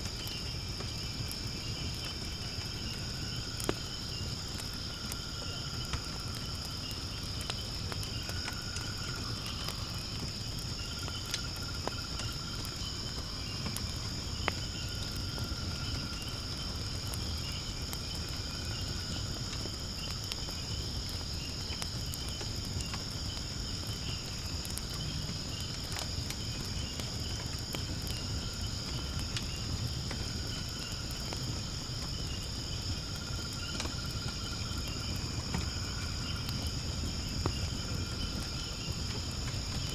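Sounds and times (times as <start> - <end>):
fire crackling and popping: 0.0 - 39.9
insects chorus: 0.0 - 39.9.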